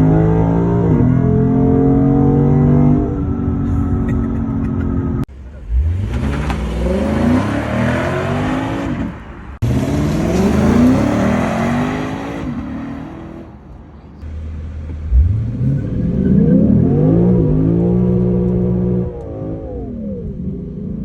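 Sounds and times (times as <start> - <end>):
car engine accelerating hard: 0.0 - 13.5, 14.2 - 21.0.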